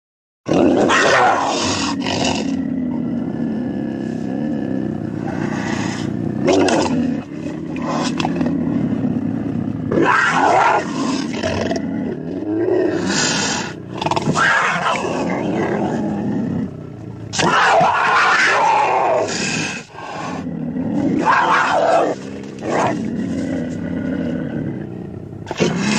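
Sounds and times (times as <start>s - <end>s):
dinosaur roars: 0.5s - 25.9s
low growl: 0.5s - 25.9s.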